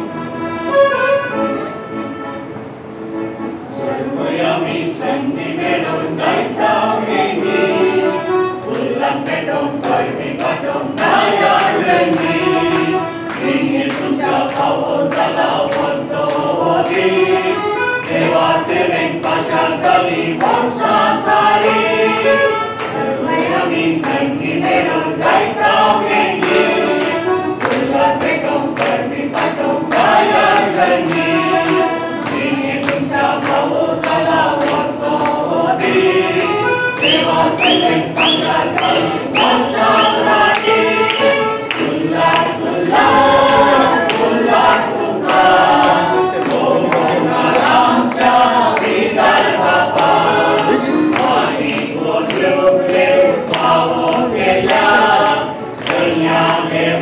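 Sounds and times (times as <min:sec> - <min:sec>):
accordion: 0:00.0 - 0:57.0
mixed choir singing: 0:03.6 - 0:57.0.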